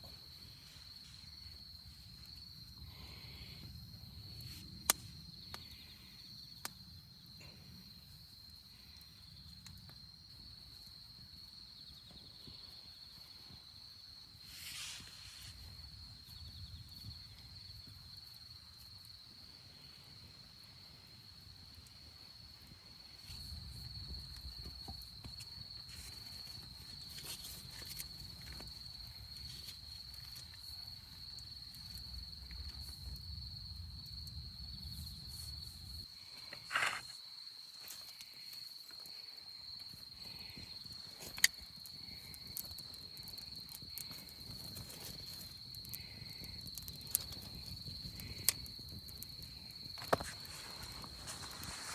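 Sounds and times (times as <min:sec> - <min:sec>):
crickets trilling: 0:00.0 - 0:51.9.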